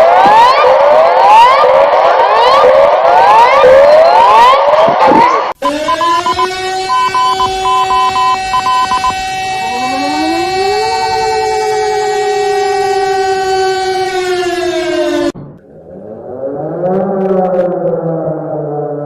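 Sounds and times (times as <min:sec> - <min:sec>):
second siren tone gliding up: 0:00.0 - 0:19.0
siren wailing: 0:00.0 - 0:19.0.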